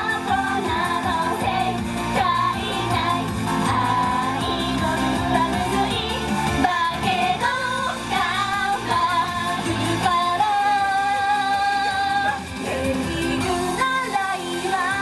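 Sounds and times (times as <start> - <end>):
female group singing pop: 0.0 - 15.0
pop backing track: 0.0 - 15.0.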